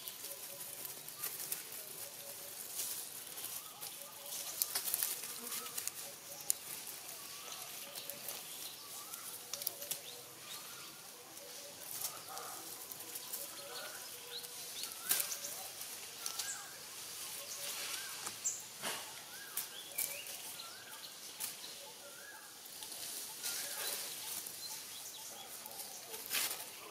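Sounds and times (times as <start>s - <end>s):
dry leaf litter crackling: 0.0s - 26.9s.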